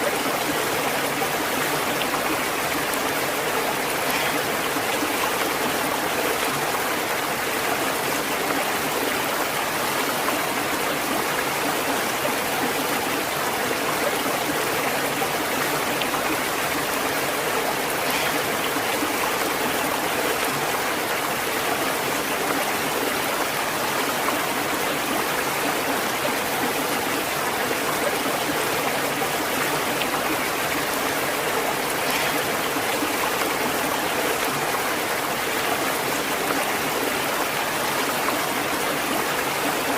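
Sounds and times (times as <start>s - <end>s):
stream water over rocks: 0.0s - 39.9s.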